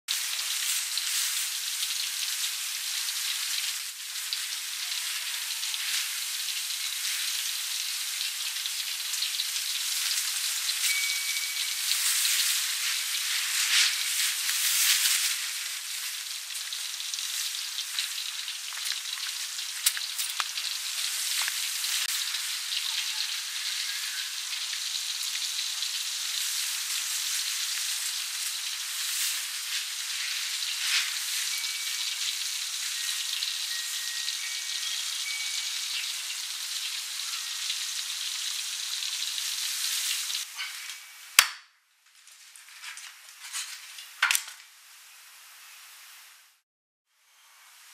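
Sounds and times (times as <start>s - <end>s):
deep-frying sizzle and crackle: 0.1s - 47.9s.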